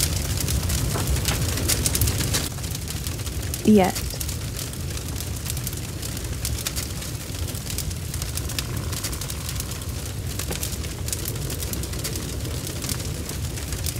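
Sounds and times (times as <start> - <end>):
lava crackles and pops: 0.0 - 13.9
low volcanic rumbling: 0.0 - 13.9.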